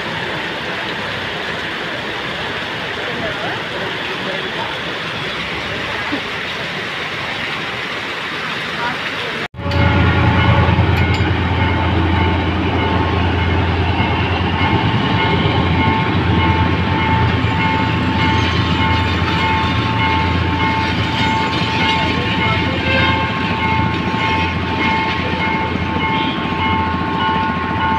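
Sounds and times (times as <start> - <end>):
train passing with low rumble: 0.0 - 27.9.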